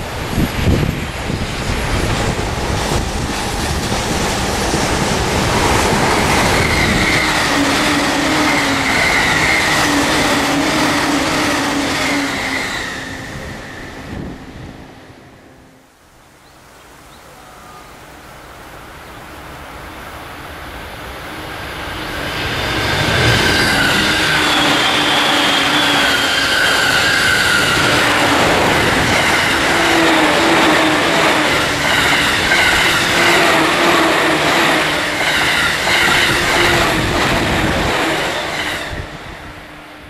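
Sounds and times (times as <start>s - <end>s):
electric train rolling past: 0.0s - 16.2s, 17.6s - 40.0s.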